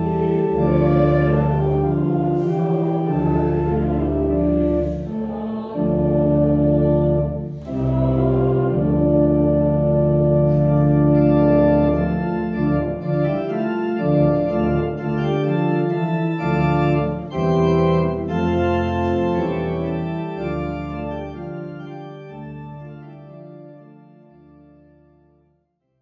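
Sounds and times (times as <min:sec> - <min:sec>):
organ playing slow chords: 0:00.0 - 0:25.4.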